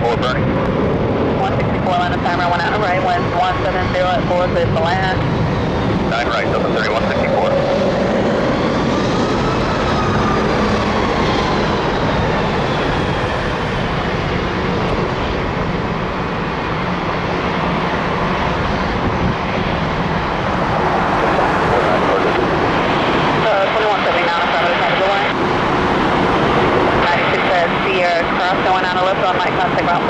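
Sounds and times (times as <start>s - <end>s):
jet engines passing: 0.0s - 30.0s.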